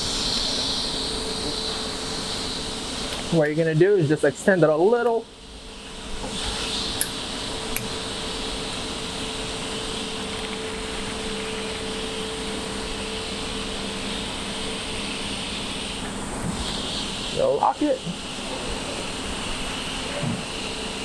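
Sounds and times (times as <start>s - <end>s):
machine-shop hum and whir: 0.0s - 21.0s.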